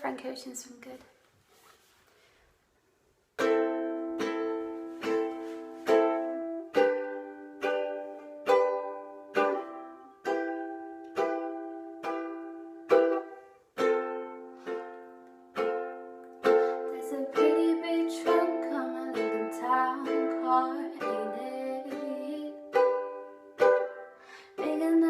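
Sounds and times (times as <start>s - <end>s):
acoustic string instrument strumming: 3.4s - 25.0s.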